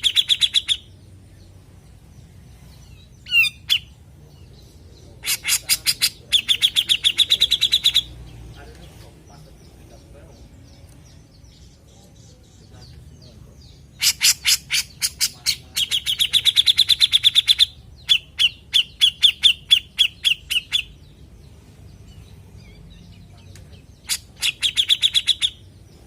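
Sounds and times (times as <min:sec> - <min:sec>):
bulbul chattering and trilling: 0:00.0 - 0:26.0.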